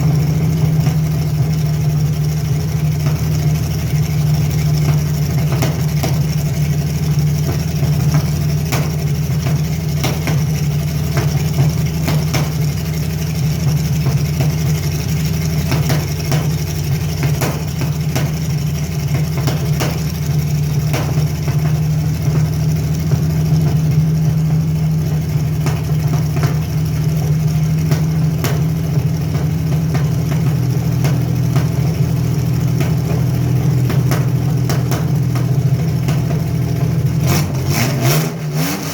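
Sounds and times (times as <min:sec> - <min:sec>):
car engine idling: 0:00.0 - 0:38.9
engine misfire ticks and pops: 0:00.0 - 0:38.9.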